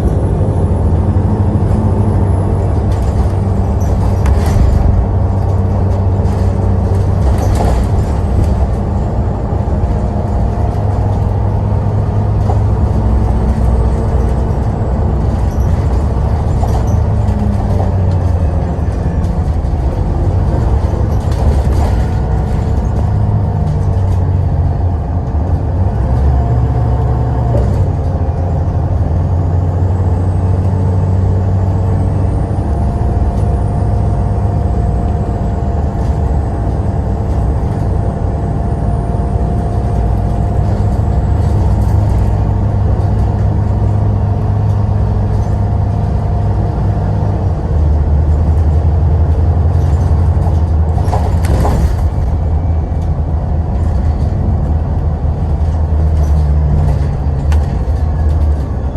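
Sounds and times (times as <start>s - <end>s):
bus engine droning: 0.0s - 58.9s.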